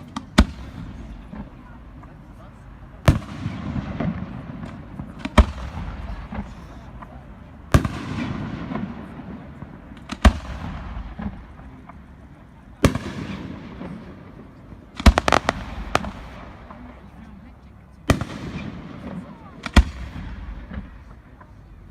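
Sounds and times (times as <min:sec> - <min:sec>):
fireworks bang with rumble: 0:00.0 - 0:02.1, 0:02.9 - 0:17.1, 0:18.0 - 0:21.5
fireworks crackling: 0:00.0 - 0:21.9.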